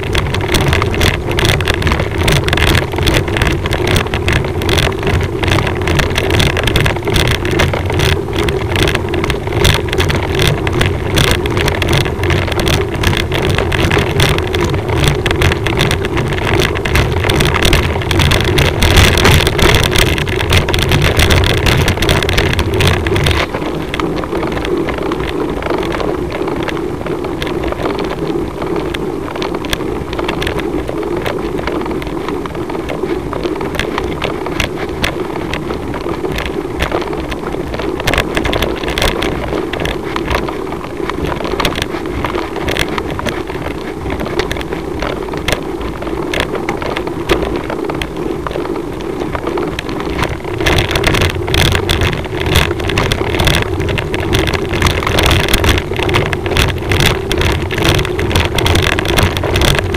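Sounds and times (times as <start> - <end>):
small clicks and rattles: 0.0 - 59.9
wind on microphone: 0.0 - 59.9.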